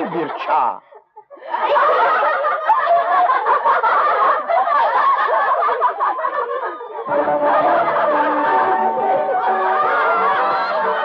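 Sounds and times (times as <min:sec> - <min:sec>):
girls laughing together: 0:00.8 - 0:11.0.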